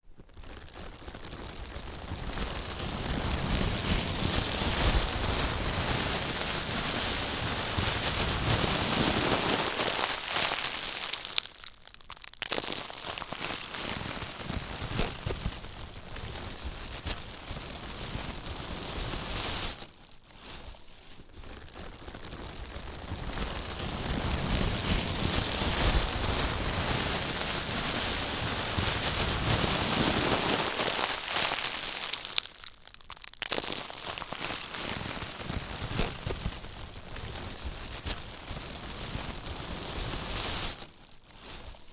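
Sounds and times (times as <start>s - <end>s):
plastic crumpling by hand: 0.1s - 41.9s.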